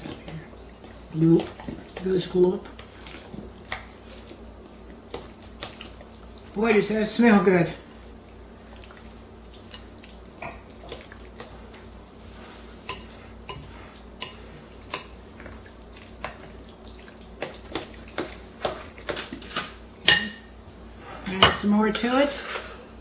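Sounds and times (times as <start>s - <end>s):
spoon stirring thick sauce in bowl: 0.0s - 7.0s, 7.8s - 20.2s
faint steady hum: 0.0s - 23.0s.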